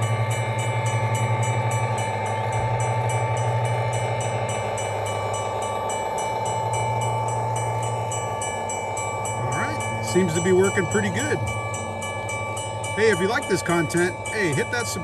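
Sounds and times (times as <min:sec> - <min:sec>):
low hum of model train: 0:00.0 - 0:15.0
railroad crossing bell ringing: 0:00.0 - 0:15.0.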